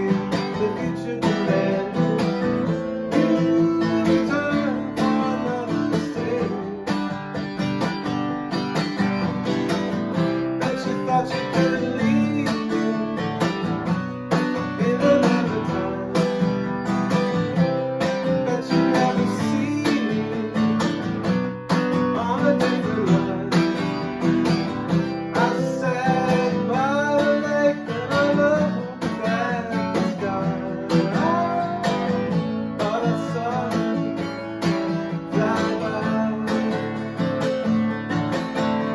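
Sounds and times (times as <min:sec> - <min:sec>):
acoustic guitar strummed chords: 0:00.0 - 0:38.9
picked guitar melody bending: 0:00.0 - 0:38.9.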